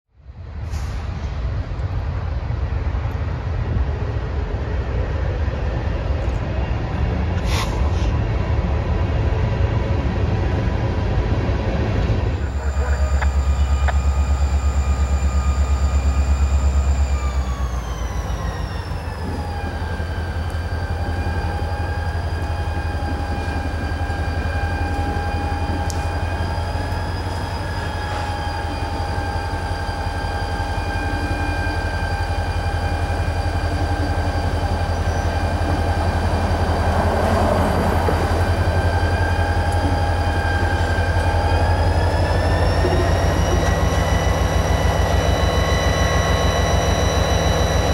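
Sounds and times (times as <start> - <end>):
diesel locomotive engine rumble: 0.1 - 47.9
high engine whine: 0.2 - 47.9.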